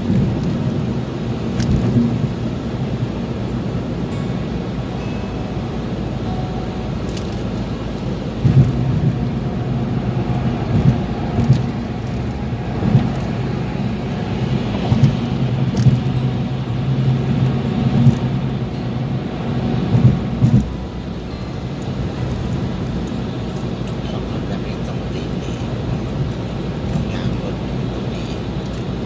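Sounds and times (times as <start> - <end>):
car engine and road hum: 0.0 - 29.0.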